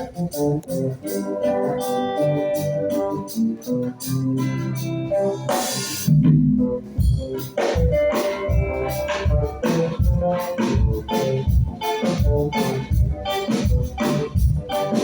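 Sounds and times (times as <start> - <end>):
reggae band playing: 0.0 - 15.0.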